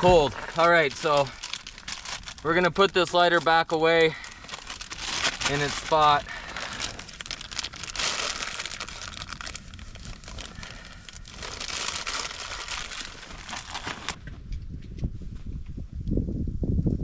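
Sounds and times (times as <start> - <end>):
gear rustling and crinkling: 0.0 - 14.6.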